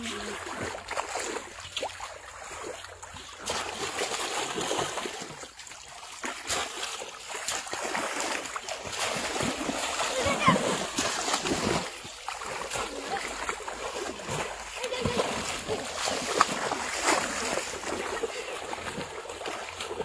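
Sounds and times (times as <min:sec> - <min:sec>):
people wading through muddy water: 0:00.0 - 0:20.0.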